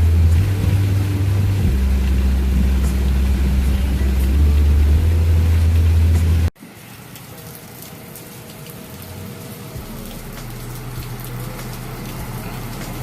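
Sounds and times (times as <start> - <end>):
low steady hum: 0.0 - 13.0
rain falling: 0.0 - 13.0.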